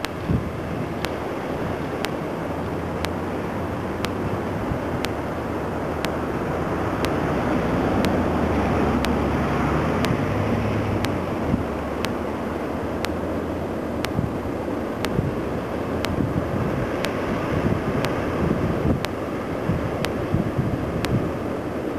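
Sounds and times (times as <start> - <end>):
wind buffeting microphone: 0.0 - 12.1, 14.0 - 21.8
ocean waves breaking: 0.0 - 21.9.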